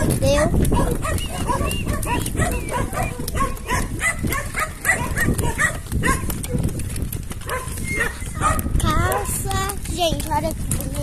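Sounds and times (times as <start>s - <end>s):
cart rolling on dirt road: 0.0s - 11.0s.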